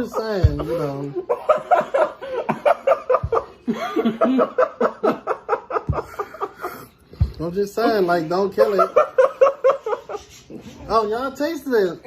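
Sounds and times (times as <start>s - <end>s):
people laughing: 0.0s - 11.1s.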